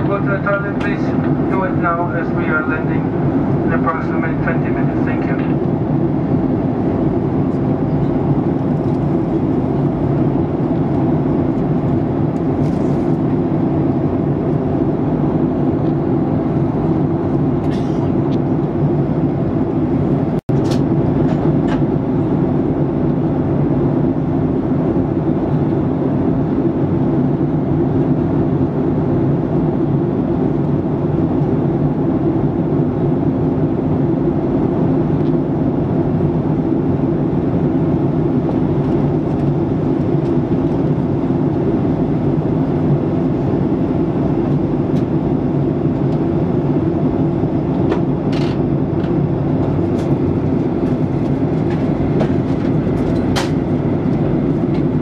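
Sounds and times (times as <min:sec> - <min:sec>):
airplane cabin airflow and engines: 0:00.0 - 0:55.0.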